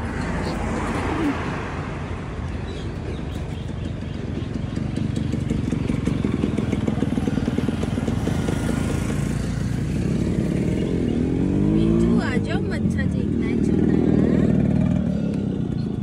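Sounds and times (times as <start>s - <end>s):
motorcycle engine passing: 3.1s - 16.0s.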